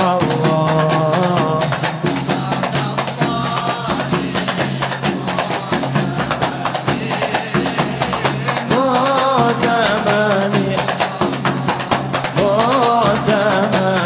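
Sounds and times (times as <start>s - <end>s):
frame drums in fast rhythm: 0.0s - 14.0s.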